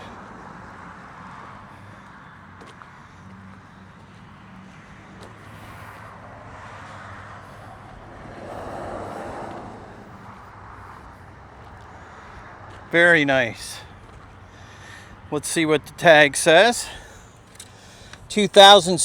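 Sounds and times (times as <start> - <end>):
road traffic: 0.0 - 19.0
vehicle passing: 0.0 - 19.0.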